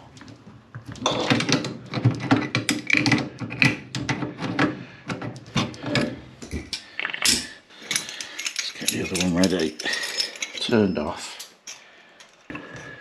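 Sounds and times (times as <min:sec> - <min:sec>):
hand tool clicking and creaking: 0:00.2 - 0:13.0.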